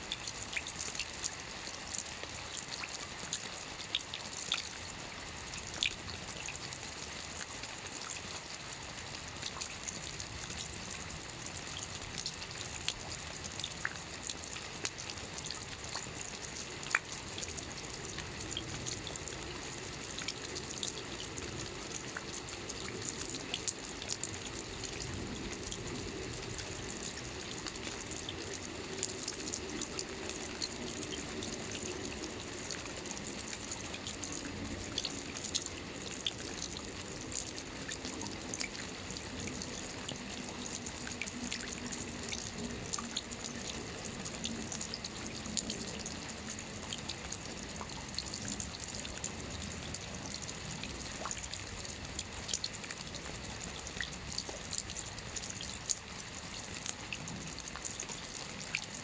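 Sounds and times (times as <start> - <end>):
steady rain: 0.0 - 59.0
water running from gutter: 0.1 - 59.0.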